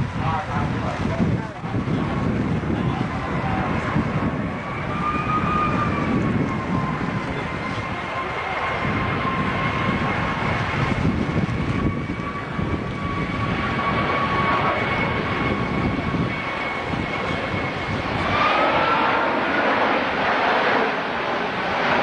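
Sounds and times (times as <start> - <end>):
jet engines rushing and whining: 0.0 - 22.0
strong wind: 0.0 - 22.0.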